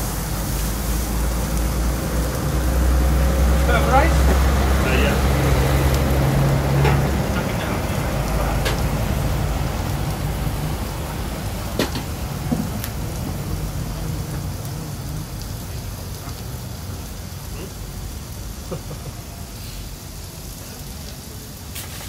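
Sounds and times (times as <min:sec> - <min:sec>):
food sizzling on a griddle: 0:00.0 - 0:22.0.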